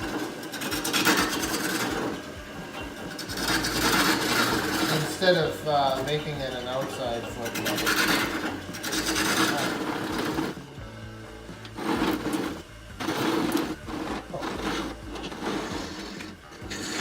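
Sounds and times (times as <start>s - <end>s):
lathe humming: 0.0s - 17.0s
turning tool scraping wood: 0.0s - 17.0s.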